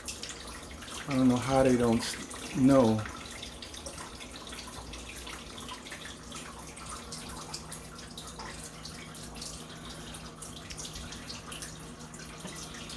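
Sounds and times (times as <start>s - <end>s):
water dripping and trickling: 0.0s - 12.9s.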